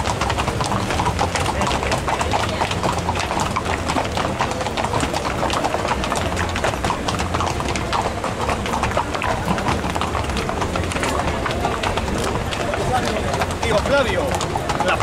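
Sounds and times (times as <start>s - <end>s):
horse hooves clattering on pavement: 0.0s - 15.0s.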